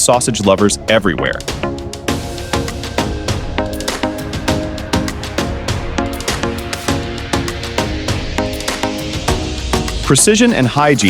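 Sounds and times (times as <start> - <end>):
drum beat: 0.0 - 11.0
synth notes: 0.0 - 11.0.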